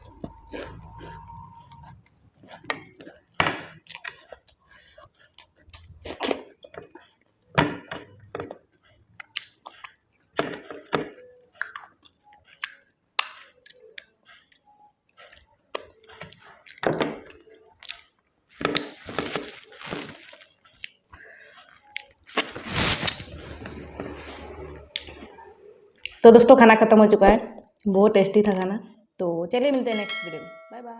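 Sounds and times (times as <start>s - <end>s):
chewing and crunching: 0.0s - 26.3s.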